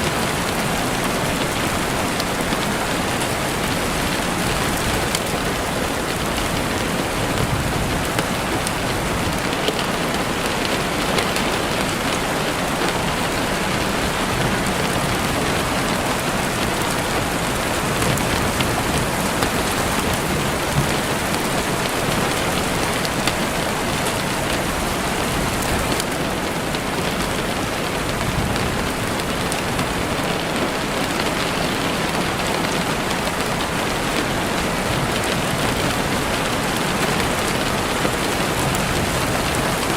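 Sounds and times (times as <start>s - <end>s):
heavy rain beating on window: 0.0s - 39.9s.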